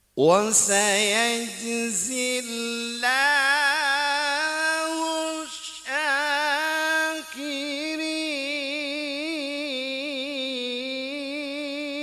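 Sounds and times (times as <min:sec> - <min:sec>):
man chanting melodic recitation: 0:00.2 - 0:12.0.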